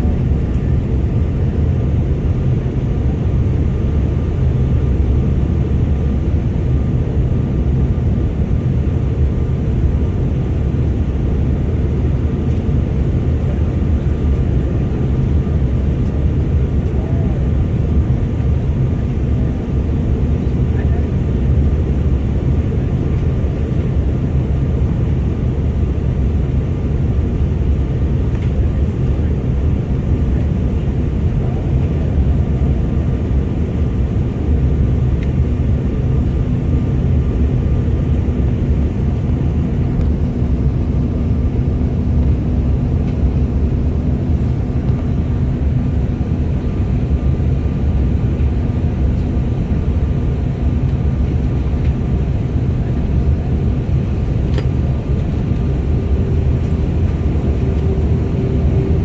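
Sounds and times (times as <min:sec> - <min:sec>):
jet cabin roar: 0:00.0 - 0:59.0.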